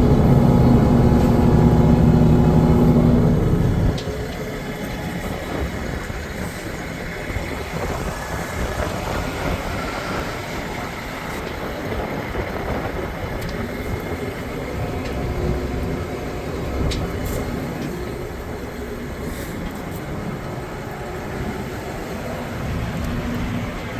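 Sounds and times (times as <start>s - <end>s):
diesel truck engine rumbling: 0.0s - 23.9s.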